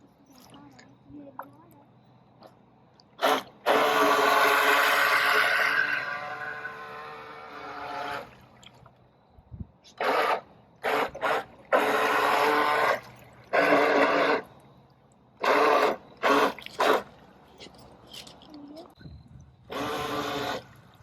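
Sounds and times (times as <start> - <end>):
toy boat motor churning water: 2.4 - 9.0, 9.9 - 21.0.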